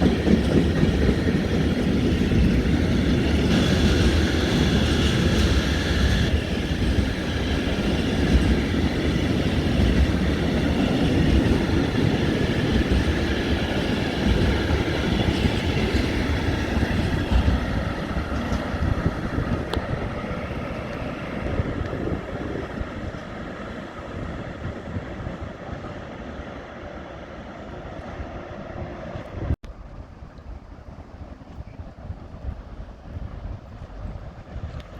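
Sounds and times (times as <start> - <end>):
train running on rails: 0.0 - 34.9.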